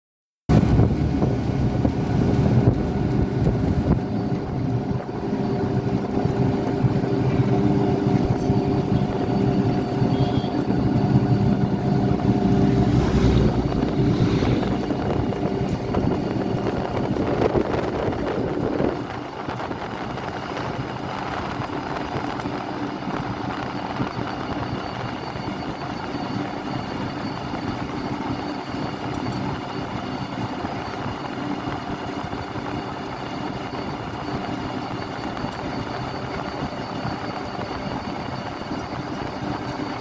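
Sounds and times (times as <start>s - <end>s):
road traffic rumble: 0.5s - 40.0s
steady engine hum: 0.5s - 40.0s.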